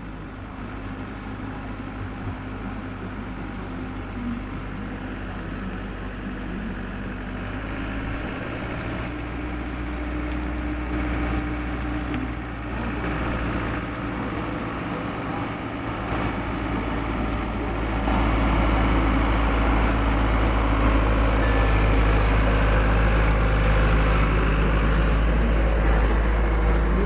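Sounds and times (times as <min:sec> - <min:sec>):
road train engine running: 0:00.0 - 0:27.0.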